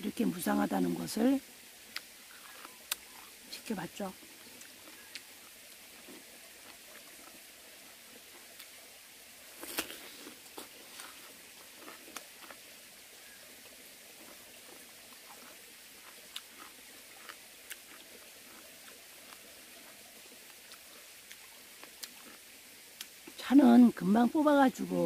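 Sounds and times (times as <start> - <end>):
melon being chewed: 1.9 - 23.4.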